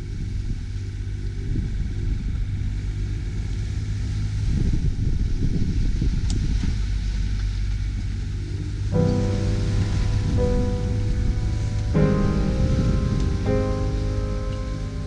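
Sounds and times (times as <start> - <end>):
low boat rumble: 0.0 - 15.0
wind buffeting microphone: 0.0 - 15.0.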